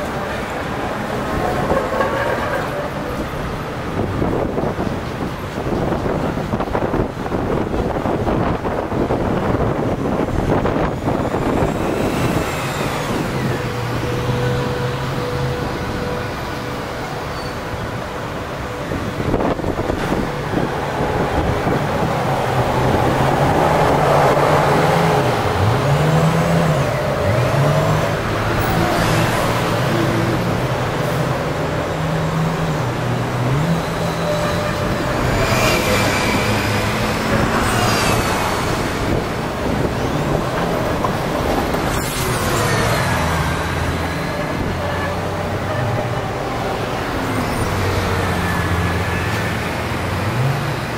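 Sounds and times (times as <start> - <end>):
bus passing close by: 0.0 - 50.9
vehicles driving past: 0.0 - 50.9.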